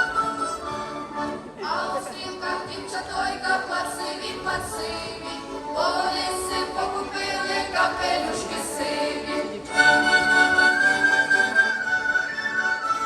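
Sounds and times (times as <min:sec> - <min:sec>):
group singing folk songs: 0:00.0 - 0:13.0
instrumental accompaniment: 0:00.0 - 0:13.0.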